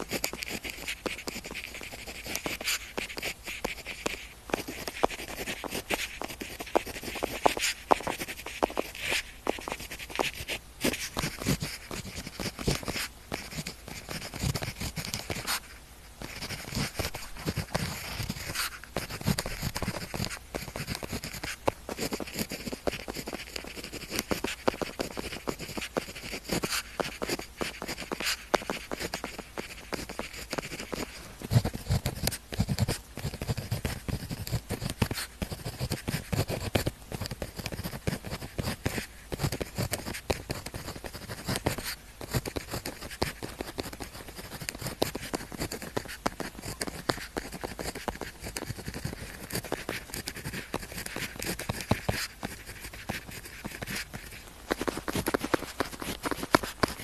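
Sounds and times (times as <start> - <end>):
pen tapping on paper: 0.0 - 15.6, 16.2 - 57.0
pen scratching on paper: 0.0 - 57.0.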